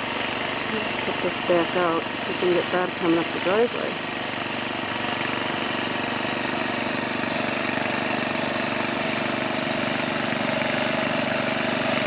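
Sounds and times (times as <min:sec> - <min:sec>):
snowblower engine running: 0:00.0 - 0:12.0.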